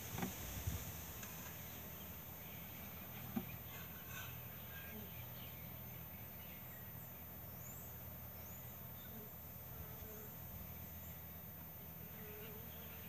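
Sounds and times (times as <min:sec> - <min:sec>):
honey bees humming: 0:00.0 - 0:13.0
faint bird chirps: 0:01.5 - 0:13.0.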